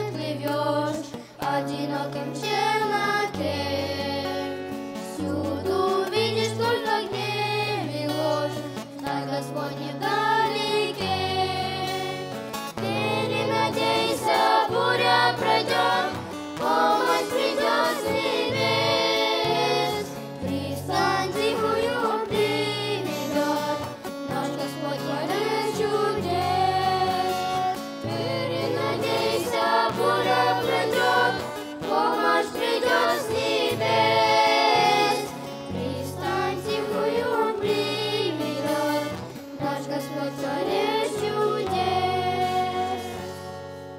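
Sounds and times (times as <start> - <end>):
children singing together: 0.0 - 43.3
strummed acoustic guitar: 0.0 - 43.9.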